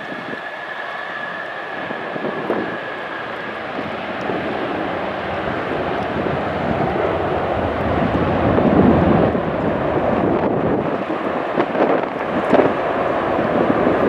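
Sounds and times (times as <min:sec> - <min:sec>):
high engine whine: 0:00.0 - 0:14.0
jet engines rushing: 0:00.0 - 0:14.0.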